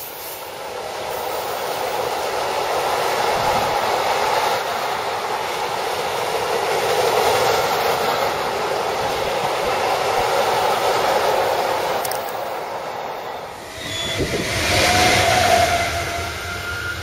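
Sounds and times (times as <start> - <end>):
electric locomotive approaching: 0.0 - 17.0.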